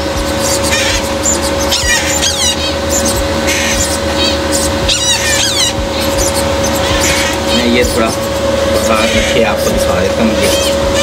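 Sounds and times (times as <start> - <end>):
machine hum: 0.0 - 11.0
parrot chicks chirping: 0.0 - 11.0.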